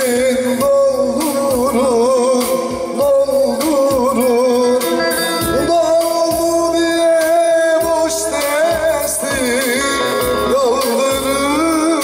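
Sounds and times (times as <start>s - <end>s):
man singing folk song: 0.0s - 12.0s.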